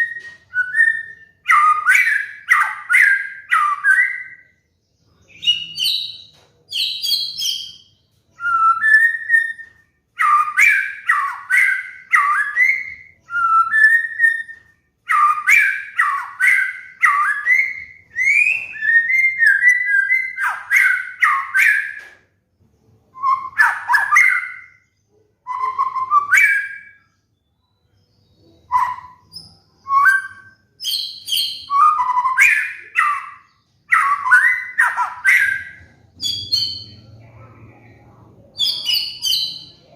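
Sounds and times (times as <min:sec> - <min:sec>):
bird singing whistled phrases: 0:00.0 - 0:04.6, 0:05.2 - 0:22.2, 0:23.2 - 0:24.8, 0:25.4 - 0:37.0.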